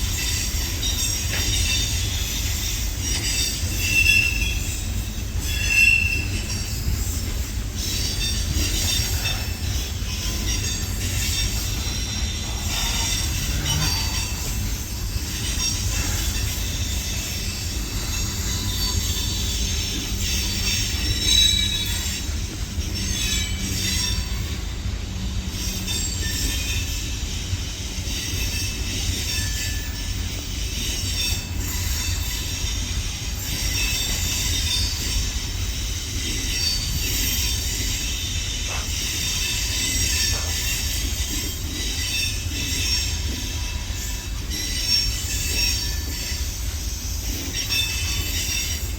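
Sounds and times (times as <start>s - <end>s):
train rumbling on rails: 0.0s - 48.9s
high-pitched wheel squeal: 0.2s - 24.8s, 25.4s - 48.9s.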